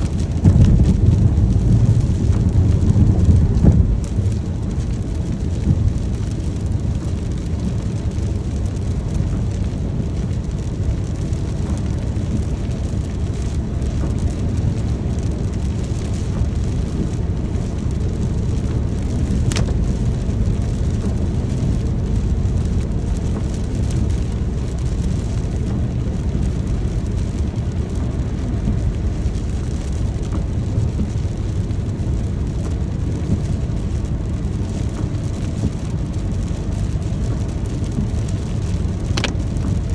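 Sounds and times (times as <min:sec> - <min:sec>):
deep low rumble: 0:00.0 - 0:39.9
steady rain: 0:00.0 - 0:39.9.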